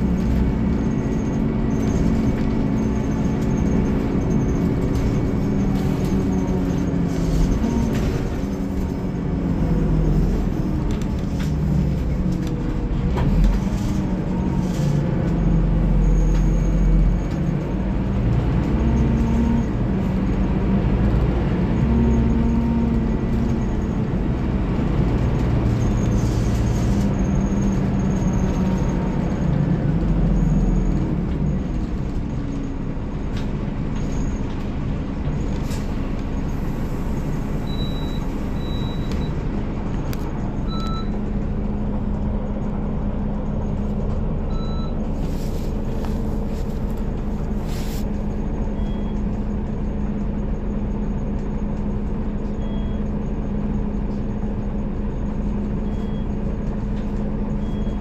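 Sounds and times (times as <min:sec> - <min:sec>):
diesel bus engine running: 0:00.0 - 0:58.0.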